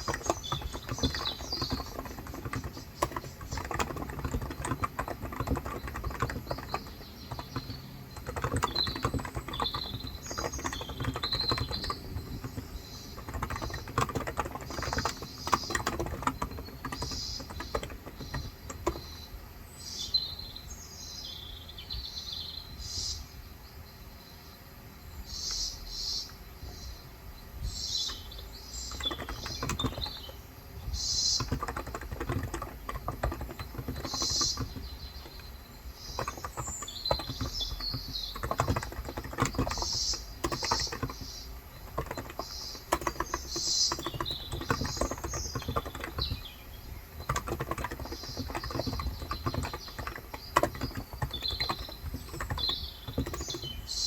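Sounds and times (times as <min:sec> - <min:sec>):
keyboard typing: 0:00.0 - 0:19.4, 0:27.8 - 0:54.0
small birds chirping: 0:00.0 - 0:54.0.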